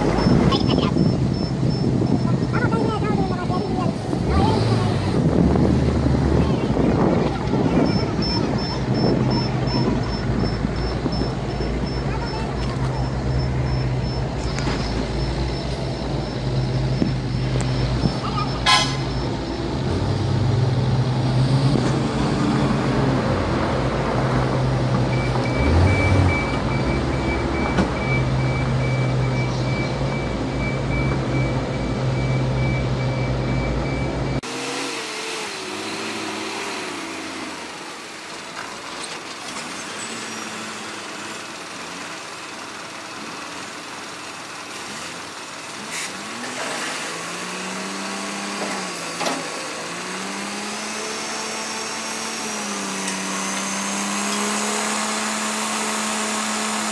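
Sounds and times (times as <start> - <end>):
diesel truck engine running: 0.0 - 56.9
heavy diesel machinery droning: 0.0 - 56.9.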